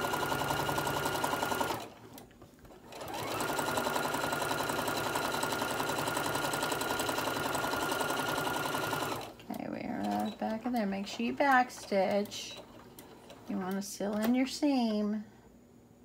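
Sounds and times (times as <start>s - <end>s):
sewing machine stitching: 0.0s - 14.4s.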